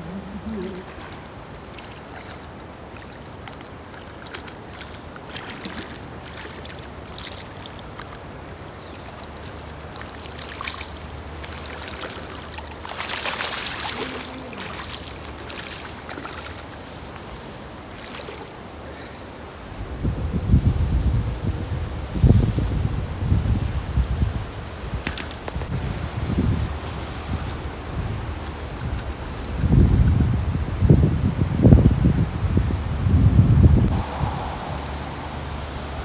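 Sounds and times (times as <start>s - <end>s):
creek water flowing: 0.0s - 36.0s.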